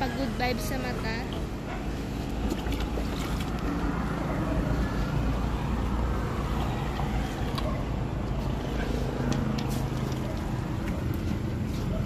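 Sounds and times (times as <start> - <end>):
faint engine hum: 0.0 - 12.0
low rumble of motor traffic: 0.0 - 12.0.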